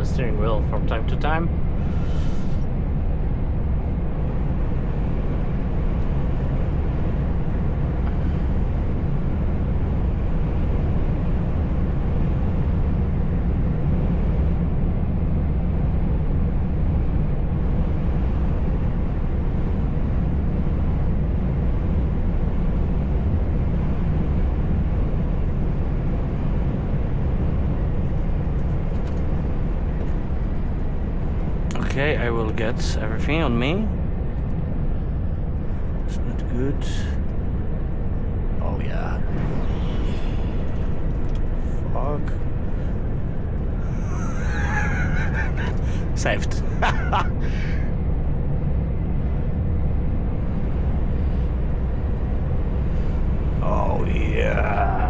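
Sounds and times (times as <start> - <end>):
truck engine and road rumble: 0.0 - 55.0.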